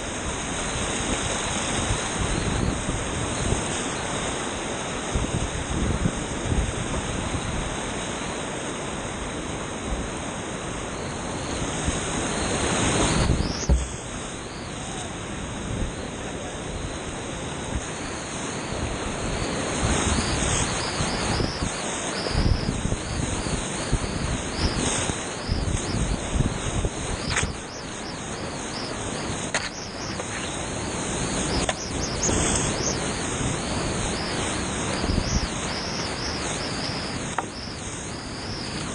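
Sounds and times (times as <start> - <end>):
wind buffeting microphone: 0.0 - 8.0, 11.2 - 38.9.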